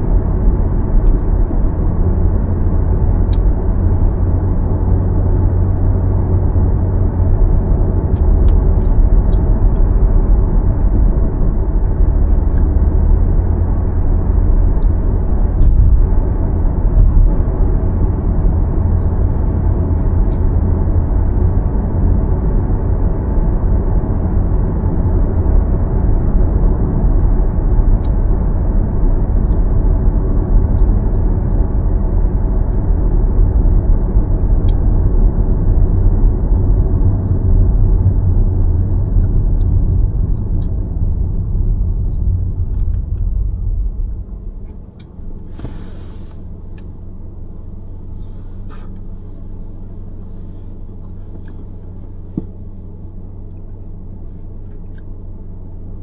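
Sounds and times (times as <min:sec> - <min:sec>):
car driving road rumble: 0:00.0 - 0:56.0.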